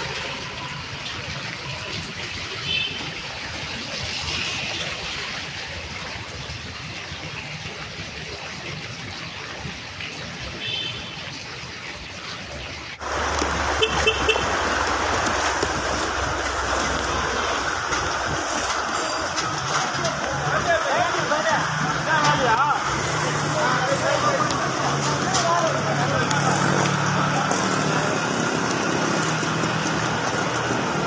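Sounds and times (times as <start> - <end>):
floodwater rushing: 0.0 - 31.0
heavy rain: 0.0 - 31.0.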